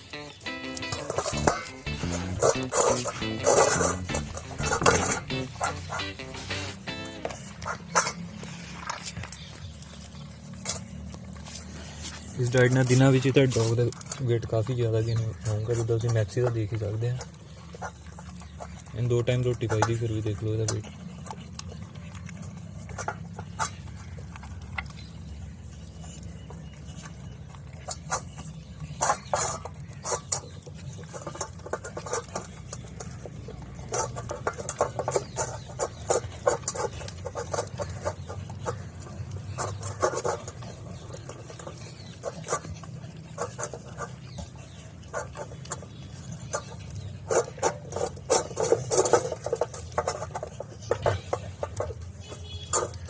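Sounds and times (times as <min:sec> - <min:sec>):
dog chewing from a bowl: 0:00.0 - 0:53.0.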